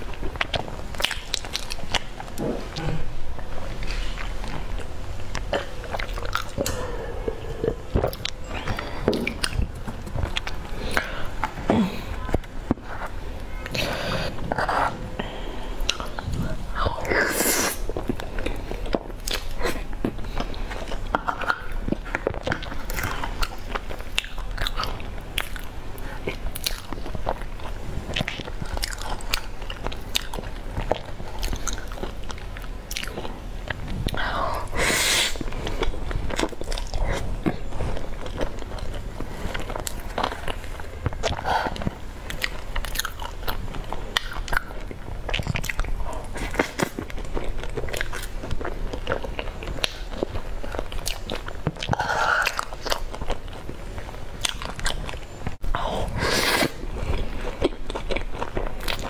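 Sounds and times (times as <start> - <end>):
wet chewing with mouth clicks: 0.0 - 59.0.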